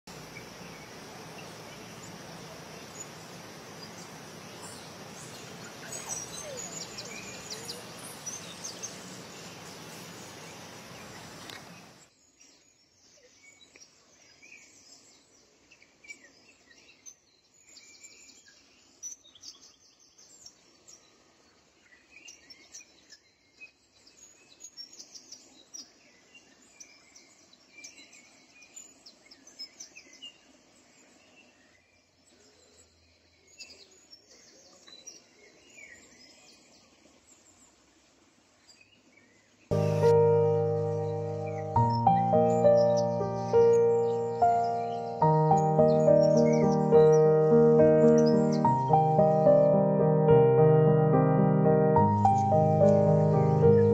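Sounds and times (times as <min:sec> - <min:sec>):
steady outdoor hiss: 0:00.0 - 0:53.9
wild birds chirping: 0:00.1 - 0:53.9.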